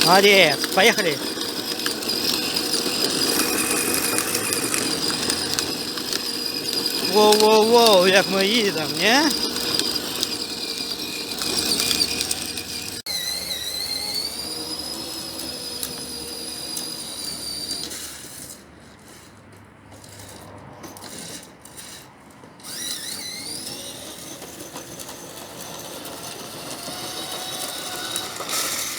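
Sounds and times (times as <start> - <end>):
electric motor whining: 0.0 - 18.2, 22.6 - 28.9.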